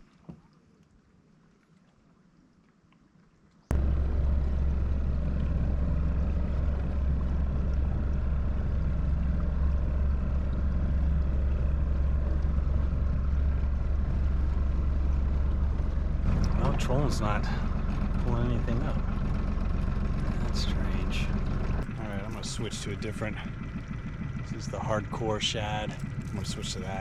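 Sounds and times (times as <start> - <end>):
boat motor rumbling: 3.7 - 27.0.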